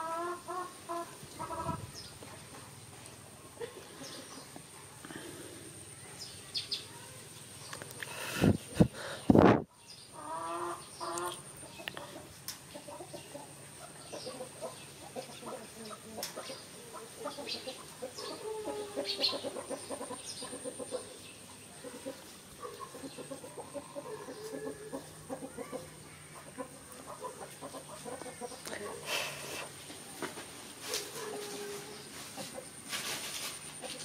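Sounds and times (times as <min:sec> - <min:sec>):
chickens clucking: 0:00.0 - 0:06.8, 0:07.4 - 0:34.0.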